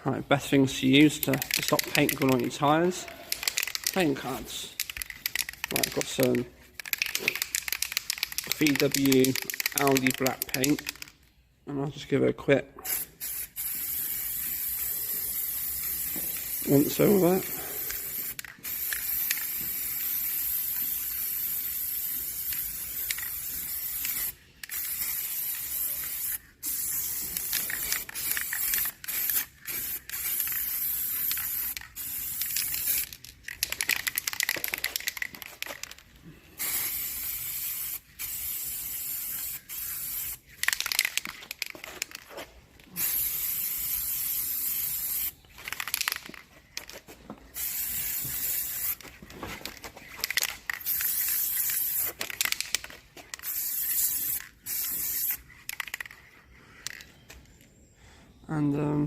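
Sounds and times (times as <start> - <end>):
spray paint can hissing: 1.1 - 11.2, 12.8 - 36.0, 36.6 - 56.2.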